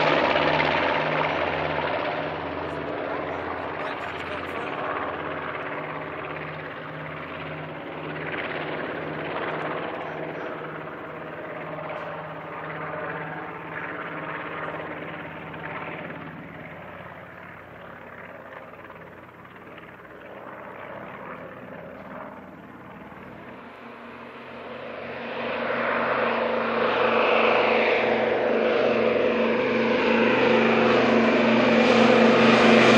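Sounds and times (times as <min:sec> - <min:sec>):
propeller aircraft droning: 0:00.0 - 0:32.9.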